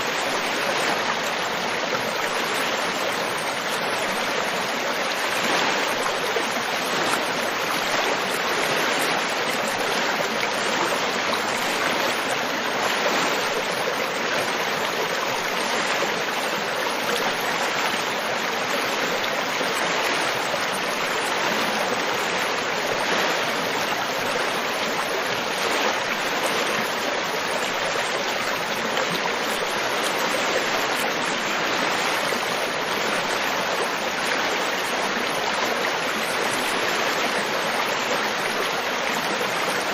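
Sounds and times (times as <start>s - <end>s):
river water rushing over stones: 0.0s - 39.9s.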